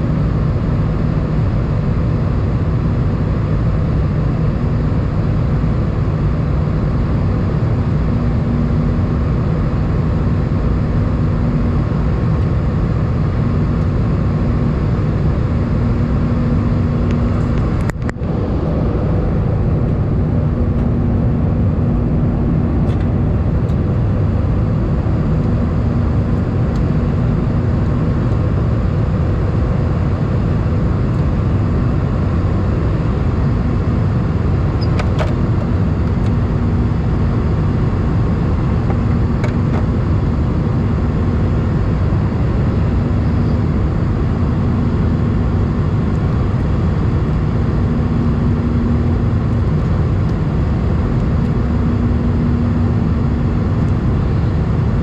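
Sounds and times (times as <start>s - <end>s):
airplane cabin low rumble: 0.0s - 55.0s
faint hum: 0.0s - 55.0s.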